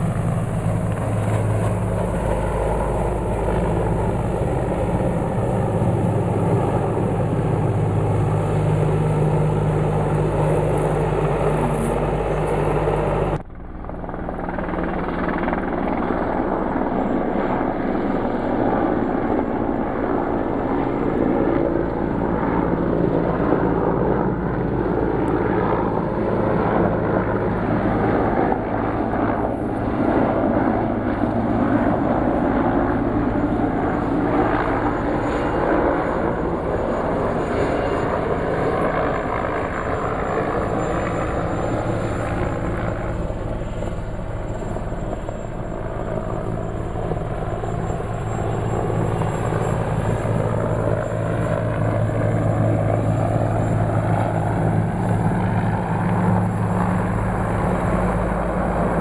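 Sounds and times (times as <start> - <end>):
helicopter flying overhead: 0.0 - 59.0.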